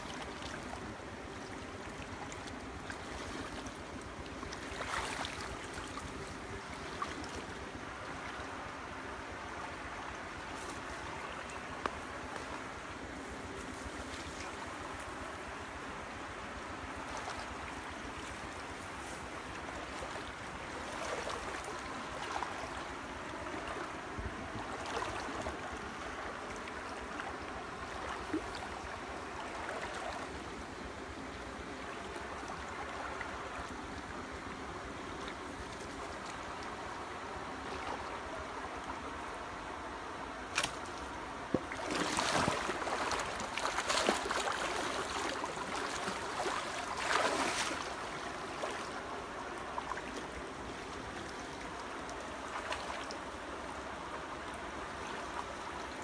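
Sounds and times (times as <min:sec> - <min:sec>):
water sloshing around wading person: 0:00.0 - 0:08.7, 0:17.0 - 0:39.4, 0:40.4 - 0:56.0.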